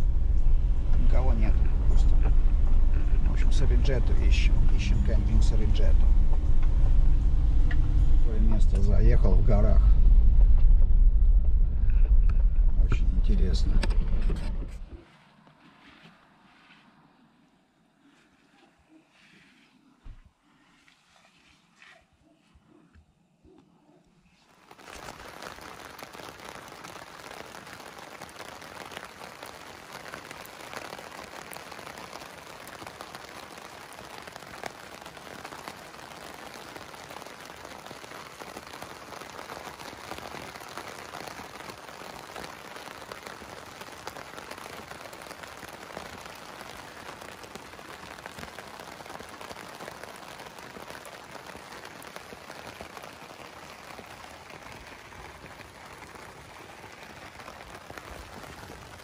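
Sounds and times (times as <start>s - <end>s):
rain on a tent: 0.0s - 17.4s, 18.0s - 21.9s, 24.2s - 59.0s.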